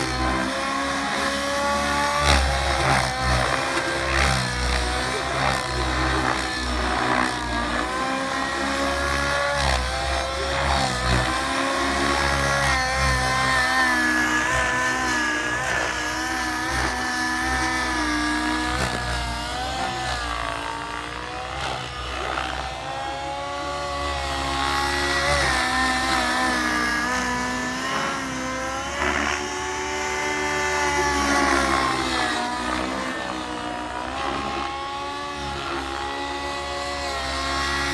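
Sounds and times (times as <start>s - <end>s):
model helicopter engine and rotor drone: 0.0s - 37.9s.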